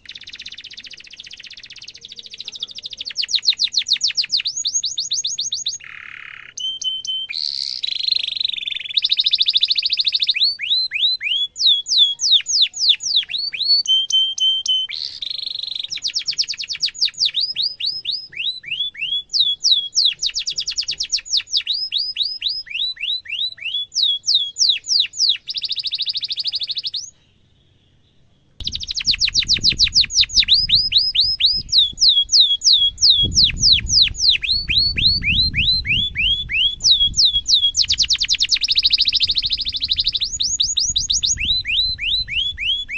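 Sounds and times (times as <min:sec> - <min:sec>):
canary singing: 0:00.0 - 0:42.9.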